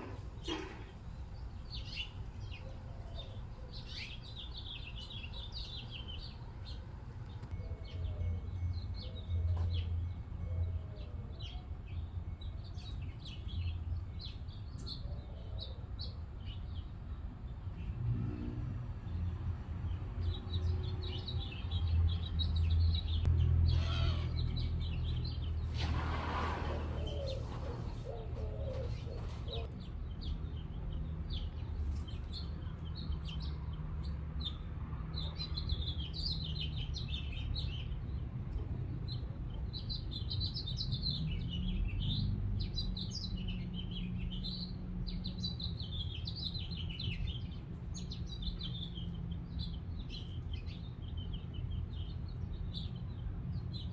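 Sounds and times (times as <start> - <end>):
small birds chirping: 0.0 - 18.0, 19.8 - 53.9.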